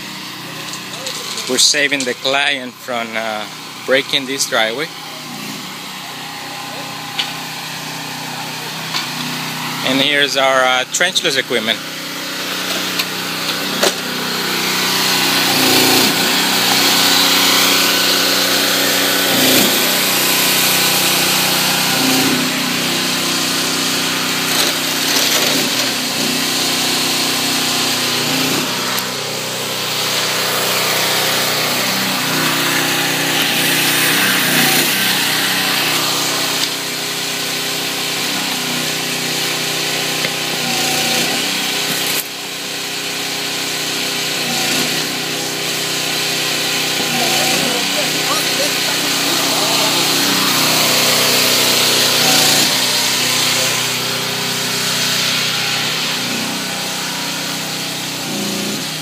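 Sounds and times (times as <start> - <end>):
hydraulic machine drone: 0.0 - 59.0.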